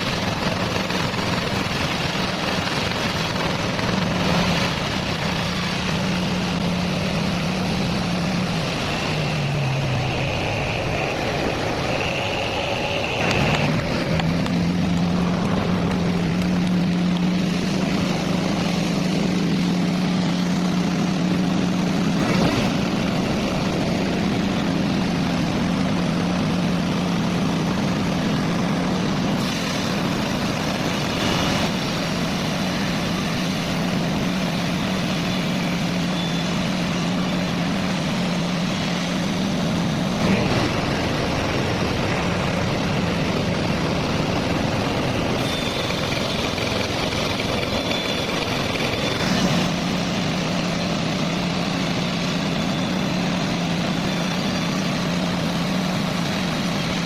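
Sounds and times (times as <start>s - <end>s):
heavy engine humming: 0.0s - 57.0s.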